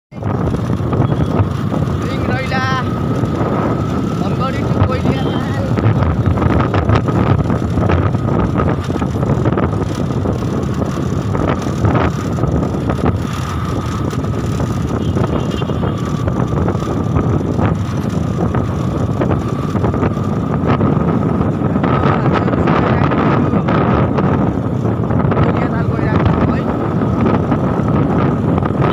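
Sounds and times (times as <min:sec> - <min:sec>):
motorcycle engine running: 0:00.1 - 0:28.9
wind buffeting microphone: 0:00.1 - 0:28.9.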